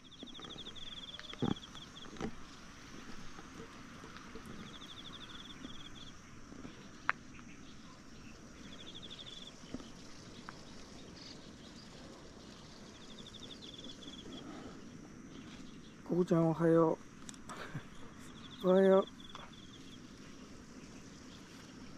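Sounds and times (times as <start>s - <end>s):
outdoor ambience: 0.0s - 21.9s.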